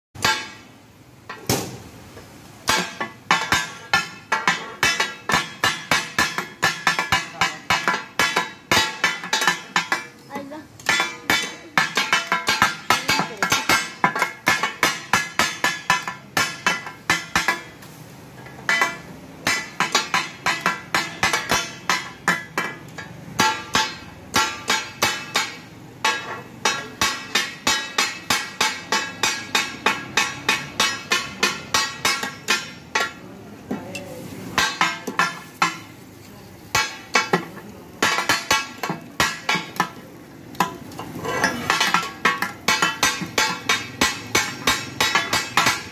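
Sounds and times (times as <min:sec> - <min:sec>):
metal spatulas chopping on griddle: 0:00.2 - 0:01.8, 0:02.6 - 0:17.9, 0:18.6 - 0:45.9.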